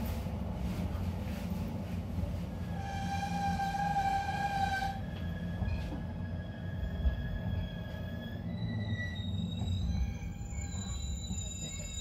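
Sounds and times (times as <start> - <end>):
train interior low rumble: 0.0 - 12.0.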